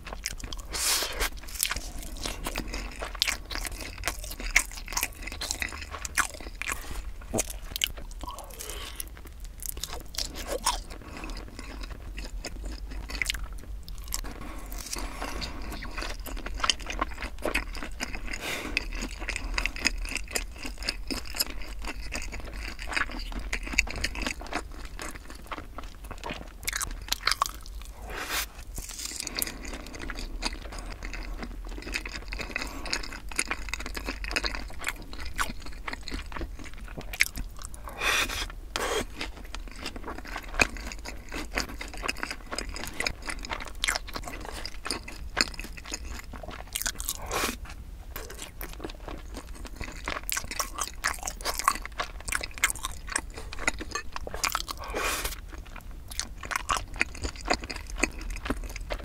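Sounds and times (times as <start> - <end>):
chewing and crunching fried chicken: 0.0 - 59.0.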